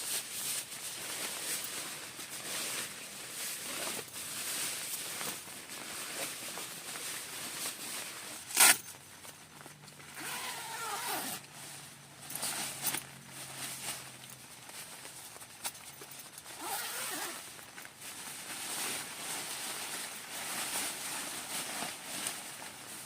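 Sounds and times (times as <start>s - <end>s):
rain on a tent: 0.0s - 23.0s
rustling handling noise: 0.0s - 23.0s.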